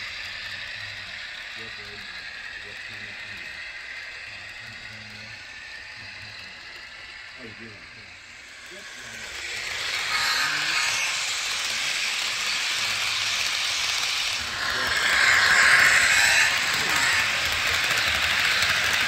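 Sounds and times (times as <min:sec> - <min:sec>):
model train hissing past: 0:00.0 - 0:19.0.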